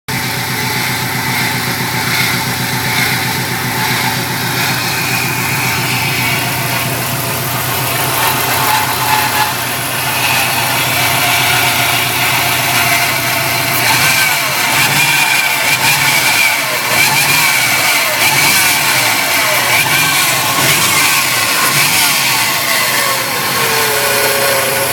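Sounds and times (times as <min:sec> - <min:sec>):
car engine running: 0:00.1 - 0:24.9.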